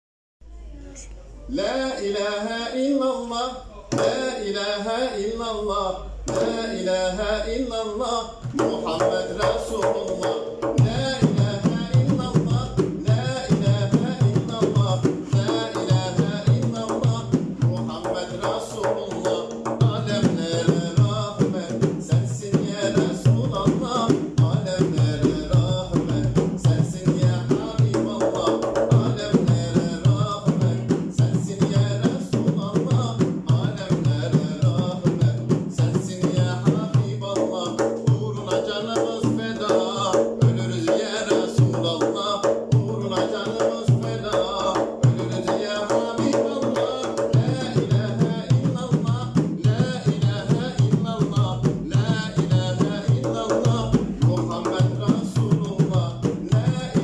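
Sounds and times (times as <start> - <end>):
man singing hymn: 1.5 - 57.0
frame drum beating: 8.5 - 57.0.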